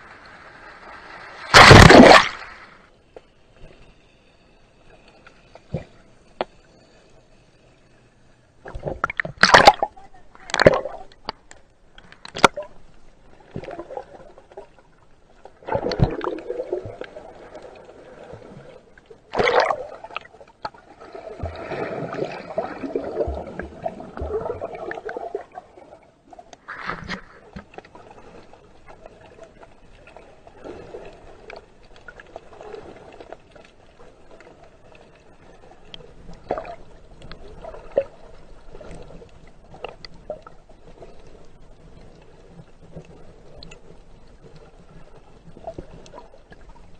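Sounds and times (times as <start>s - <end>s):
water splashing and sloshing: 0.0s - 4.0s, 8.4s - 46.9s.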